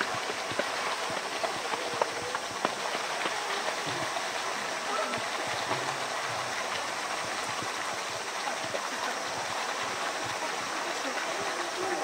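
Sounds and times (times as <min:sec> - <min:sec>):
running water rushing: 0:00.0 - 0:12.0
people chattering: 0:00.8 - 0:07.0, 0:08.2 - 0:12.0.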